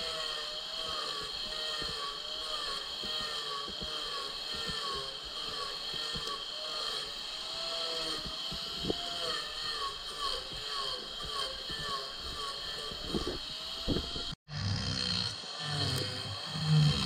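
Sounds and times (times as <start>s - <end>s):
angle grinder cutting wood: 0.0s - 17.0s.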